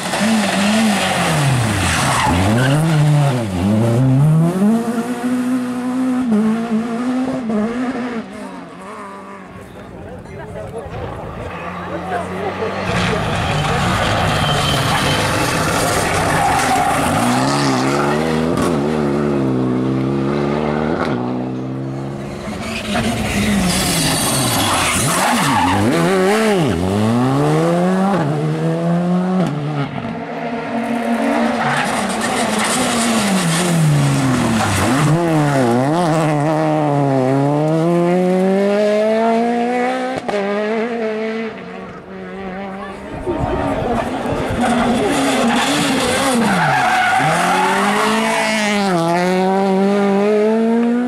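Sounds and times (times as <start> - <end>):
rally car engines revving hard: 0.0 - 51.0.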